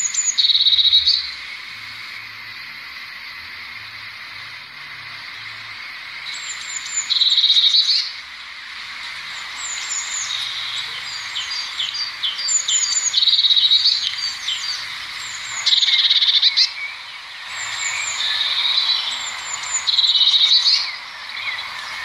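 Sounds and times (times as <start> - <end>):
bird rapid trill: 0.0 - 2.2, 6.0 - 22.0.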